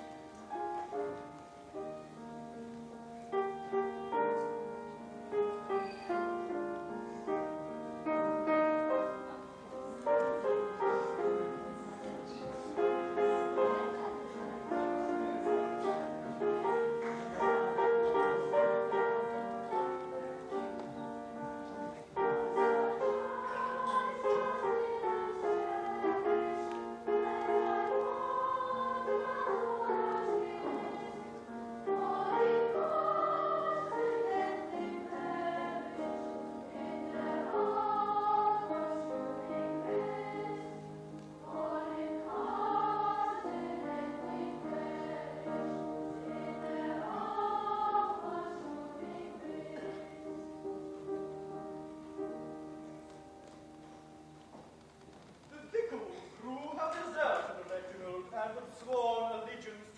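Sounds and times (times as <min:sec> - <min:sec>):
piano playing chords: 0:00.0 - 0:55.2.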